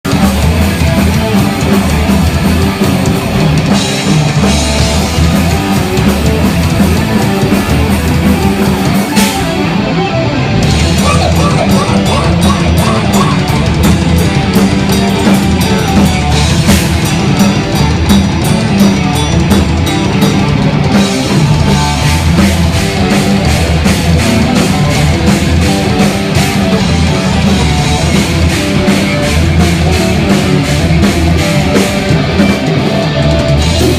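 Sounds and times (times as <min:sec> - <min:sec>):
distorted electric guitars: 0:00.0 - 0:33.9
drum kit: 0:00.0 - 0:33.9.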